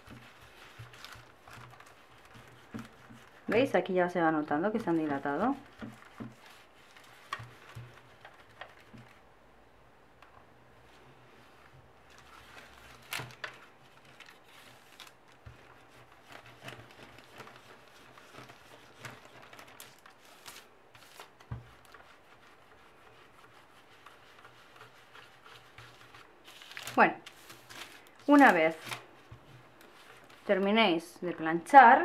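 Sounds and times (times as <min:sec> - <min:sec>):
baking paper rustling under iron: 0:00.0 - 0:09.2, 0:11.3 - 0:32.0.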